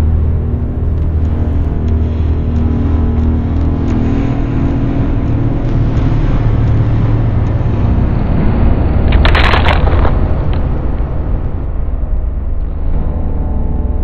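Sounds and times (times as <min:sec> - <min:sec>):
faint hum: 0:00.0 - 0:14.0
loud low rumble: 0:00.0 - 0:14.0.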